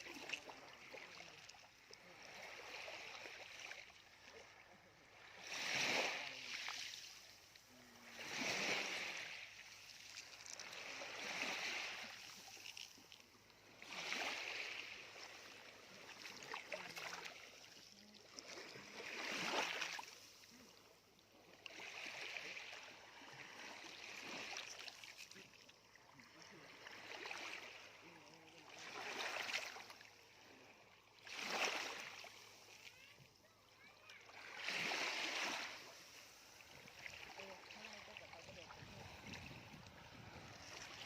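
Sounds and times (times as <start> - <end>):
small waves washing on sand: 0.0 - 41.0.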